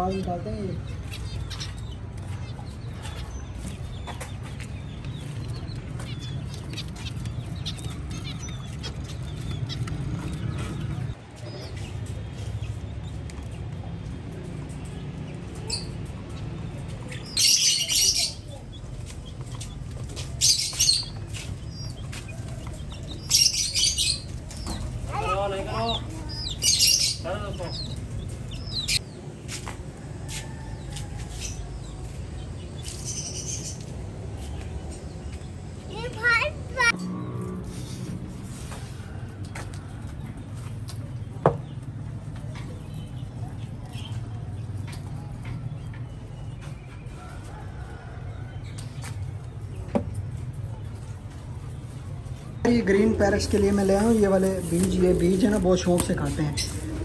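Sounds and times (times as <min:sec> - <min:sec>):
small birds chirping: 0:00.0 - 0:38.1, 0:39.0 - 0:57.0.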